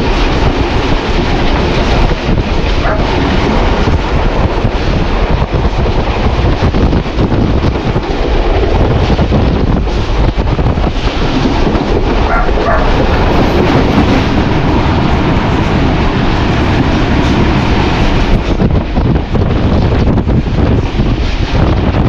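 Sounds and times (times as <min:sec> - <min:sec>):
diesel locomotive rumbling: 0:00.0 - 0:22.0
wind buffeting microphone: 0:00.0 - 0:22.0.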